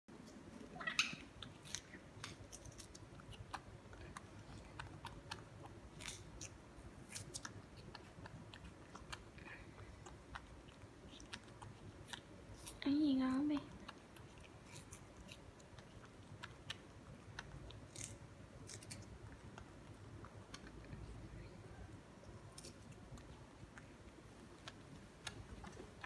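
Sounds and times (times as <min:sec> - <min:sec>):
monkey chewing fruit: 0:00.3 - 0:26.0.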